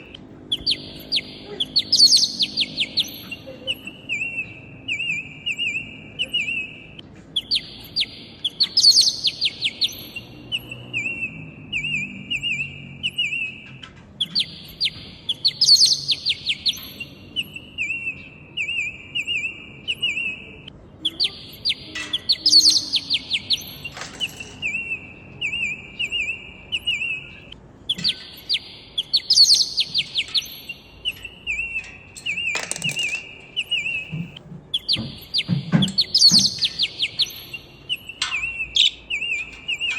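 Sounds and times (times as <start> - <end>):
parrots chirping and trilling: 0.0 - 39.9.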